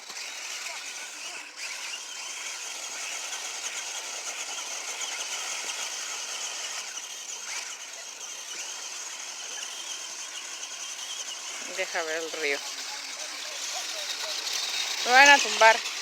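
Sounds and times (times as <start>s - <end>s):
toy car motors whining: 0.0s - 16.0s.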